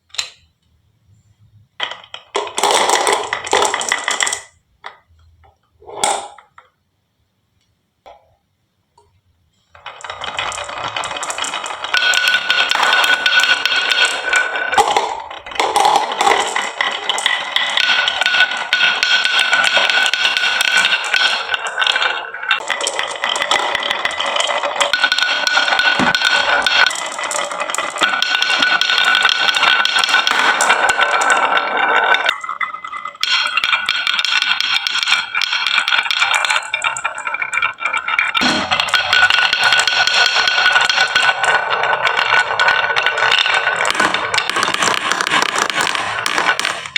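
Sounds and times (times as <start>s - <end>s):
marbles rolling on wooden track: 1.8s - 6.8s, 9.7s - 46.9s.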